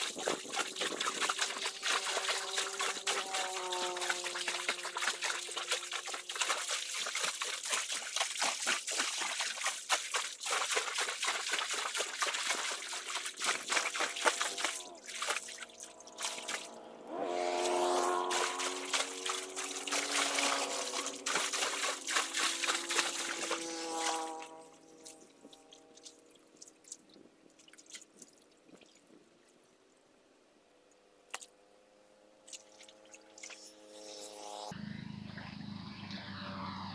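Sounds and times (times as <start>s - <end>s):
water splashing from wading: 0.0s - 29.2s, 32.4s - 34.0s.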